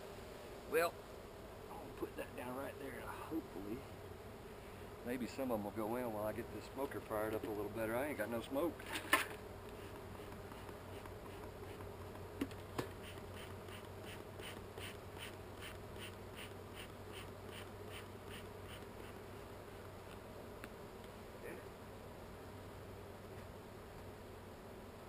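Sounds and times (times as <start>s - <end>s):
bees buzzing: 0.0s - 23.2s.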